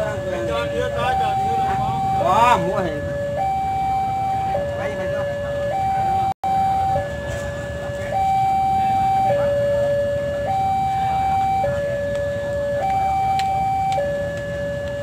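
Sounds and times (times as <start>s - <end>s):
level-crossing two-tone alarm: 0.0s - 15.0s
market bustle: 0.0s - 15.0s.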